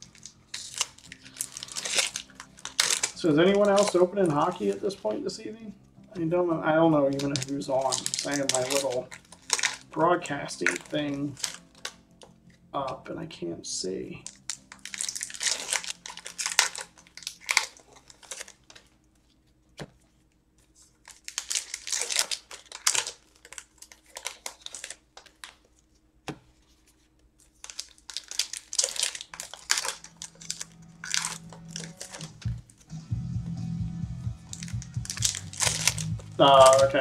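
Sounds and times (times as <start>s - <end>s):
foil wrappers crinkling: 0.0s - 5.6s, 6.2s - 12.3s, 14.0s - 32.9s, 34.4s - 37.0s.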